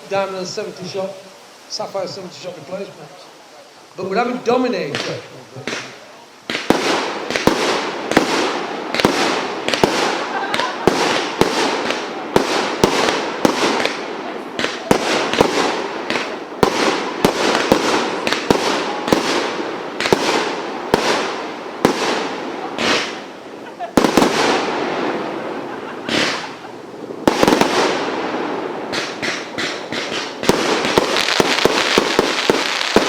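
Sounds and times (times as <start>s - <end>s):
firework hissing and crackle: 0.0s - 33.0s
firework bangs: 4.1s - 33.0s.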